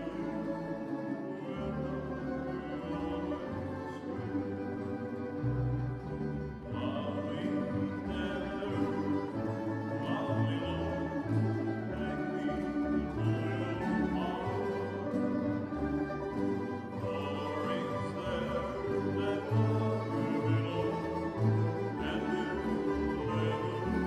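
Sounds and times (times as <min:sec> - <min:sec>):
man singing: 0:00.0 - 0:04.5, 0:06.6 - 0:24.0
plucked string ensemble: 0:00.0 - 0:24.0.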